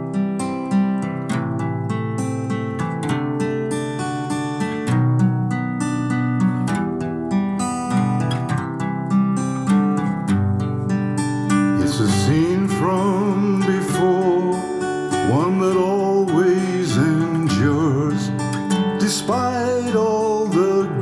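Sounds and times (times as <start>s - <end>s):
strummed acoustic guitar chords: 0.0s - 21.0s.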